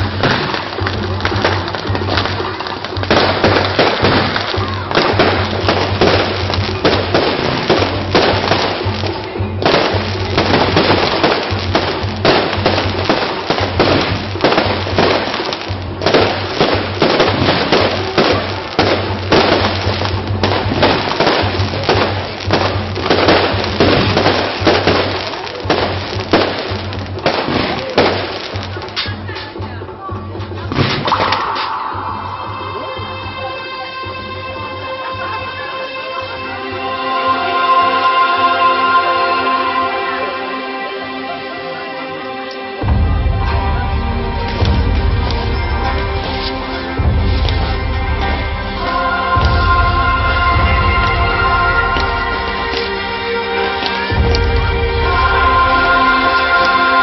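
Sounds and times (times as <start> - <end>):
fireworks bangs and crackling: 0.0 - 40.4, 42.8 - 57.0
music playing: 0.0 - 57.0.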